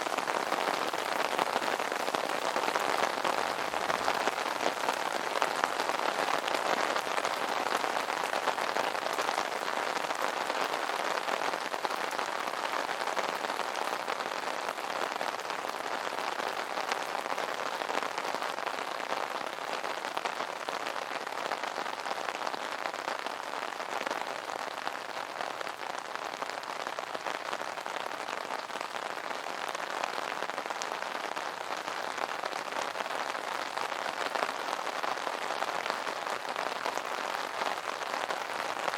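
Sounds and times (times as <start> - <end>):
rain drumming on umbrella: 0.0 - 38.9.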